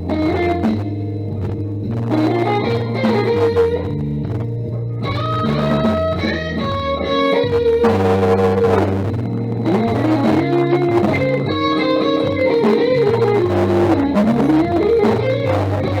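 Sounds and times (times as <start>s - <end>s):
bass line: 0.0s - 16.0s
plucked guitar: 0.0s - 16.0s.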